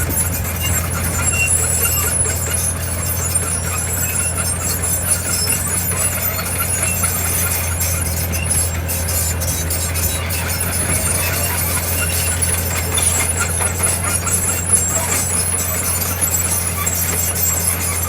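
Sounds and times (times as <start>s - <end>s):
faint metallic squeaks and clinks: 0.0s - 18.0s
heavy diesel machinery running: 0.0s - 18.0s.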